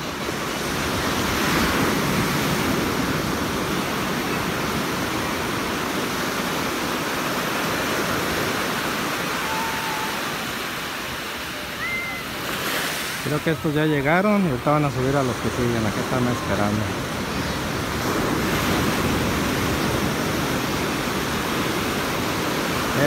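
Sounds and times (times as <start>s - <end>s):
wave breaking: 0.0s - 23.0s.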